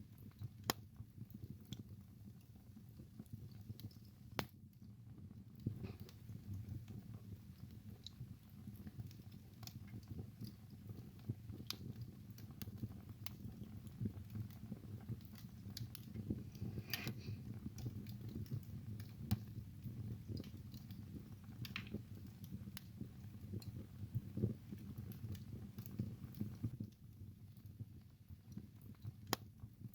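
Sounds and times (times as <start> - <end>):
fire popping and snapping: 0.0 - 29.9
wood fire crackling: 0.0 - 29.9.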